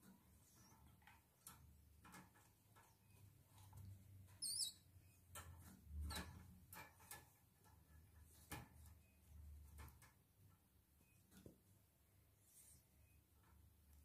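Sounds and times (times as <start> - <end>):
faint clicks and rustles: 0.0 - 14.0.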